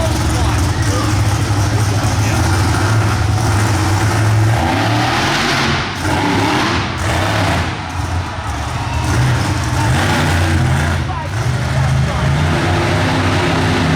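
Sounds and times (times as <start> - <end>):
truck engine revving: 0.0 - 13.9.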